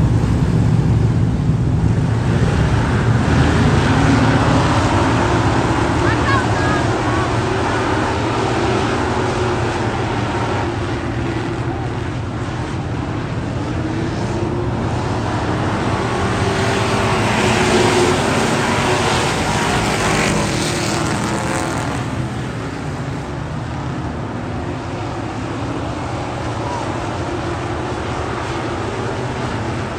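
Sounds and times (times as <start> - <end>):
race car engine running: 0.0 - 29.9.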